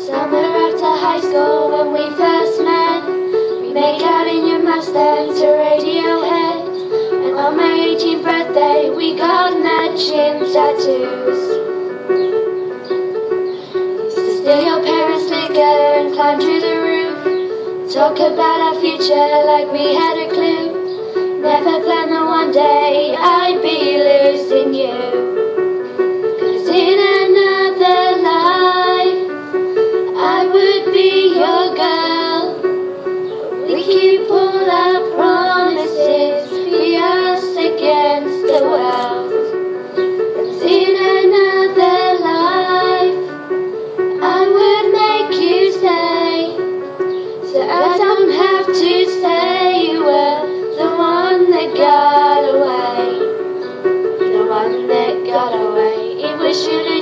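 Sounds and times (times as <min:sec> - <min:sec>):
girls singing together: 0:00.0 - 0:11.7, 0:14.1 - 0:25.4, 0:26.4 - 0:29.4, 0:30.0 - 0:32.7, 0:33.4 - 0:43.4, 0:44.0 - 0:57.0
electronic keyboard low notes: 0:00.0 - 0:57.0.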